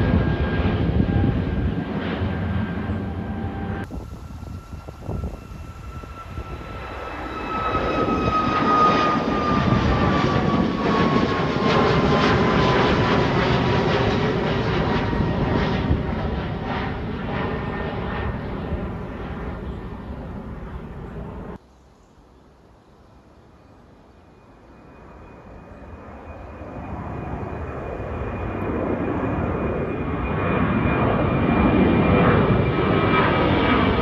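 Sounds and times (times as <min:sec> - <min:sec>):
jet airliner taking off: 0:00.0 - 0:21.6, 0:24.0 - 0:34.0
jet engine high whine: 0:00.0 - 0:21.6, 0:22.5 - 0:34.0.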